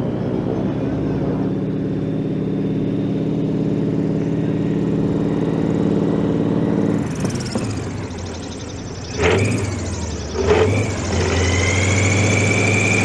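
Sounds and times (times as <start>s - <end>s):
radial aircraft engine droning: 0.0s - 13.0s.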